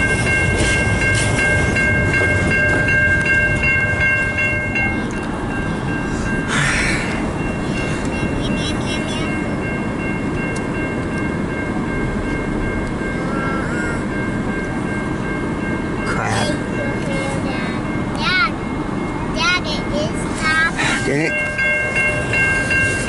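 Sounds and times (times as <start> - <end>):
freight train rumbling past: 0.0 - 23.0
steady high tone: 0.0 - 23.0.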